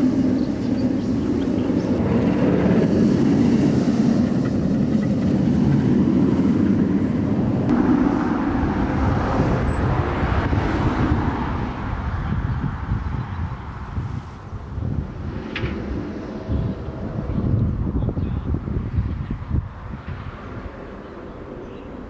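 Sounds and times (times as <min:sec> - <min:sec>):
roller coaster train rumbling on track: 0:00.0 - 0:22.0.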